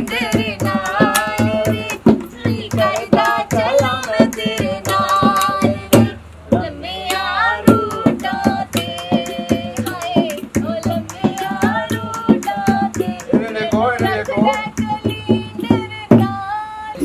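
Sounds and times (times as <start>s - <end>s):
woman singing folk song: 0.0s - 17.0s.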